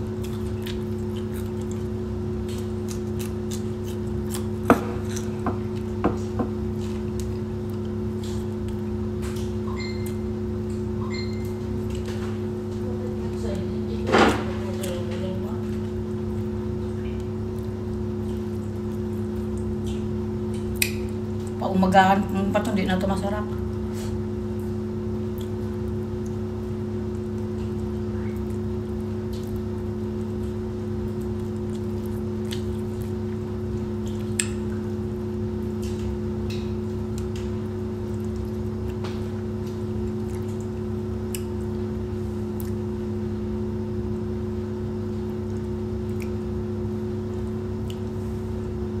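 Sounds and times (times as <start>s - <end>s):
person eating with clicks and smacks: 0.0s - 13.4s, 14.4s - 21.6s, 23.5s - 49.0s
appliance hum: 0.0s - 49.0s.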